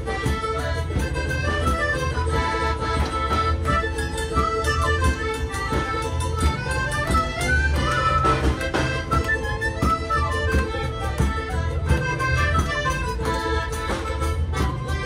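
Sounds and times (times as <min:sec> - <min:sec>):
folk dance music: 0:00.0 - 0:15.0
people clapping along: 0:02.3 - 0:15.0.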